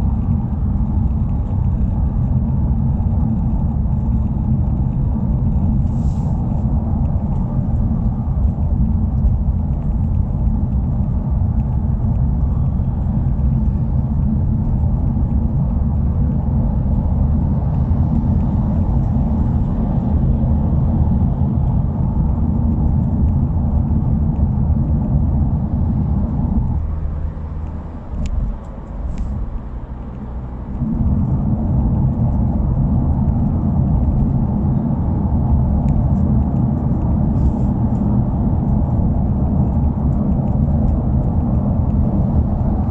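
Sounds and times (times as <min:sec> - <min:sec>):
car engine droning while driving: 0:00.0 - 0:42.9.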